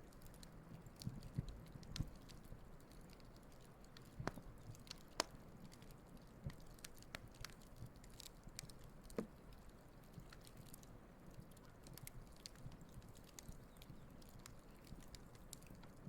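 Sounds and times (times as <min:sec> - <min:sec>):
low steady hiss: 0:00.0 - 0:16.0
wood fire crackling and popping: 0:00.0 - 0:16.0.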